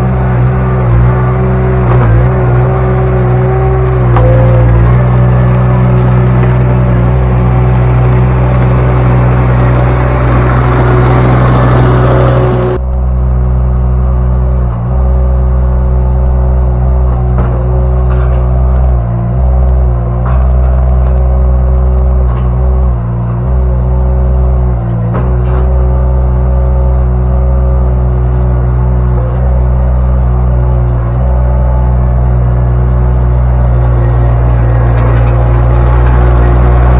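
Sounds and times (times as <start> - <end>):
mini skid steer engine running: 0.0 - 36.9.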